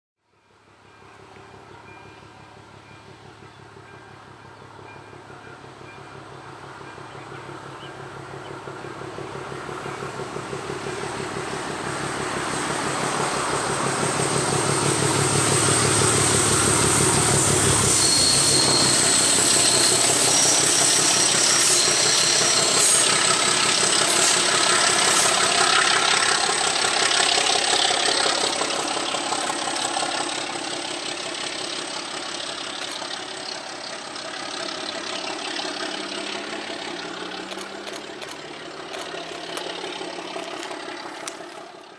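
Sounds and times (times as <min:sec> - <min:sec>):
diesel locomotive engine passing: 0:00.3 - 0:41.9
ringing wheel and rail noise: 0:00.3 - 0:41.9.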